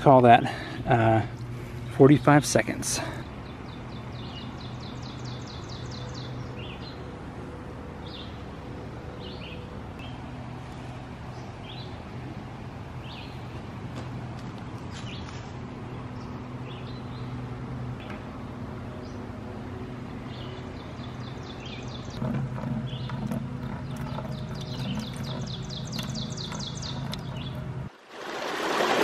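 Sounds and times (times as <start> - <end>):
songbirds calling: 0.0 - 27.9.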